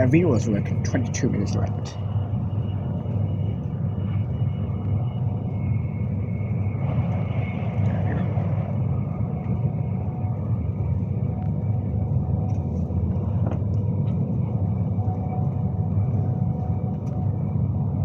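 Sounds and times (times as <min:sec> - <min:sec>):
electric train rumble from inside: 0:00.0 - 0:18.0.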